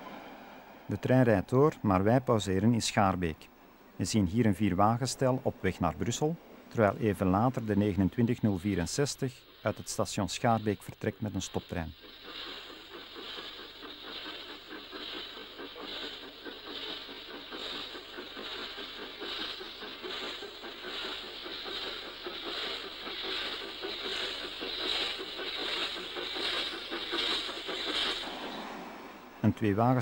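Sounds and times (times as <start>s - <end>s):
steam locomotive exhaust beats: 0.0s - 30.0s
steam hiss: 4.0s - 30.0s.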